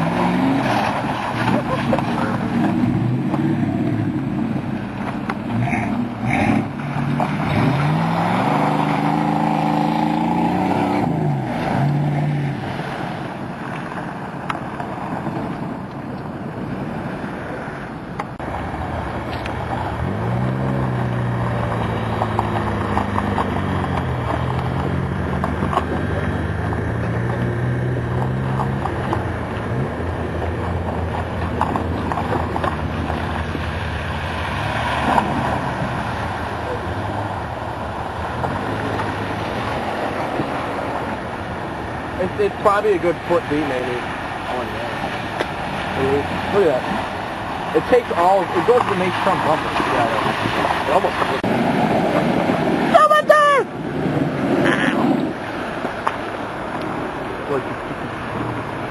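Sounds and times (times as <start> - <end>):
truck engine revving: 0.0 - 13.1, 18.4 - 58.9.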